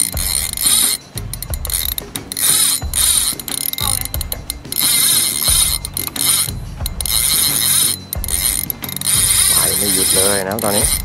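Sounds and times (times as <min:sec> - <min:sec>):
fishing reel drag ratcheting: 0:00.0 - 0:11.0.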